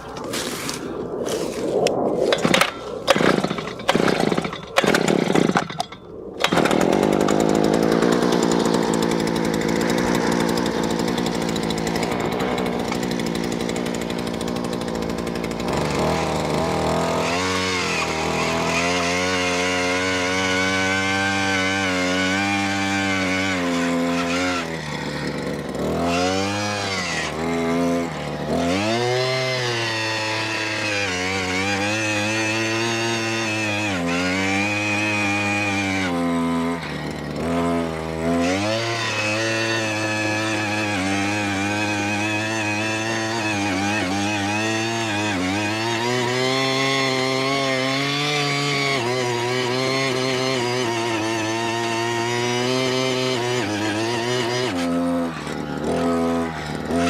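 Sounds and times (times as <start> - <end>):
power tool motor bogging down: 2.3 - 57.0.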